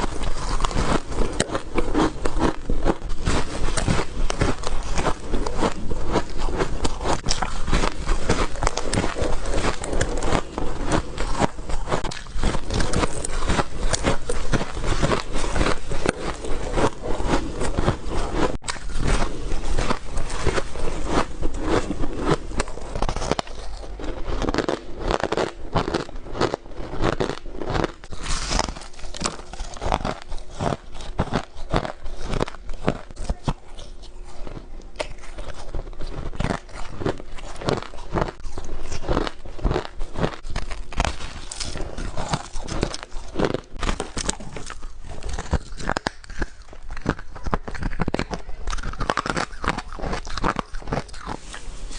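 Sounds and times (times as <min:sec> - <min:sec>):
ice being crunched: 0:00.0 - 0:32.6, 0:35.1 - 0:51.9.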